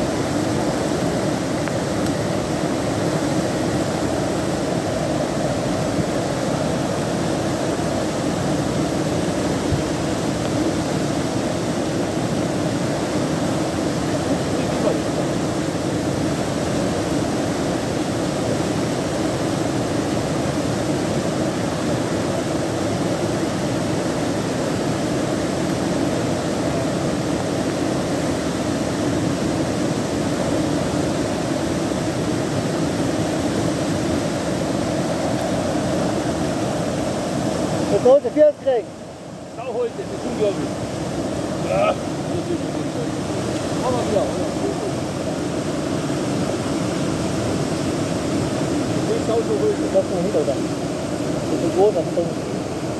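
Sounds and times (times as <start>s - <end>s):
stream rushing: 0.0s - 52.9s.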